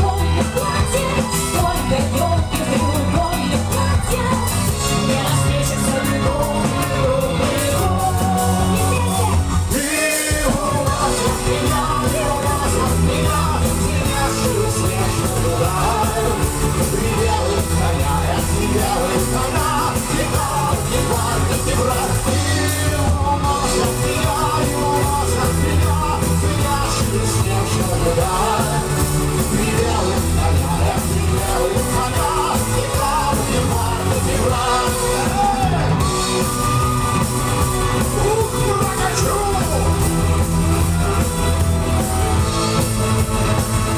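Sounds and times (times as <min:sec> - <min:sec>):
lead singer singing: 0:00.0 - 0:43.9
live rock band playing: 0:00.0 - 0:43.9.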